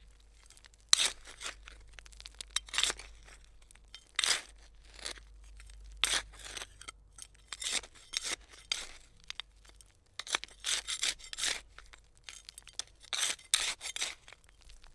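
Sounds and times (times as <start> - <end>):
trowel scraping soil: 0.4 - 9.4, 10.2 - 14.9.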